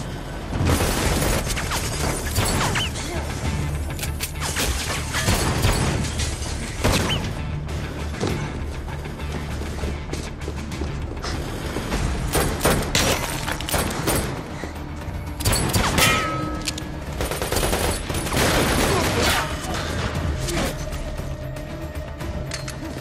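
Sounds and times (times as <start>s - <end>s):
driving action music score: 0.0s - 23.0s.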